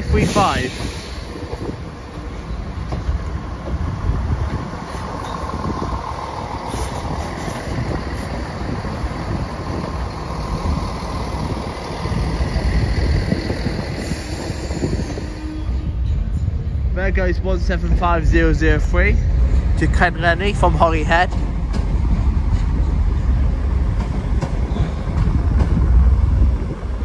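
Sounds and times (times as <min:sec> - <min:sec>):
diesel train engines rumbling: 0:00.0 - 0:27.0
train wheels on rail: 0:00.0 - 0:27.0.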